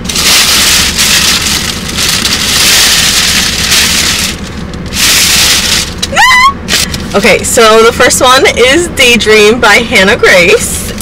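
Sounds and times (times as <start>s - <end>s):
car air conditioning blowing: 0.0s - 11.0s.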